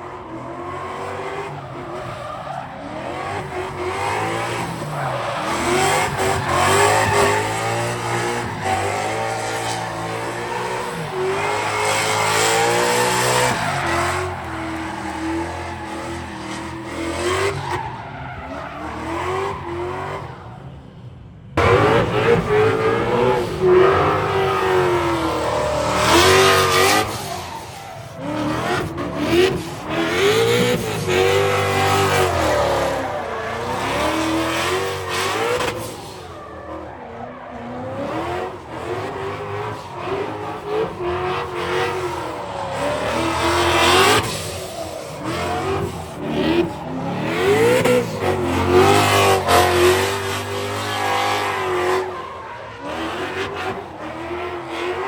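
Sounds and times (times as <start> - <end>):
car engines revving: 0.0 - 55.0
tires squealing and skidding: 0.0 - 55.0.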